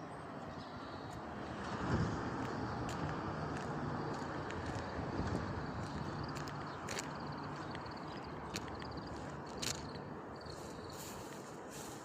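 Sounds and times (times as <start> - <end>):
distant vehicle passing: 0.0 - 11.4.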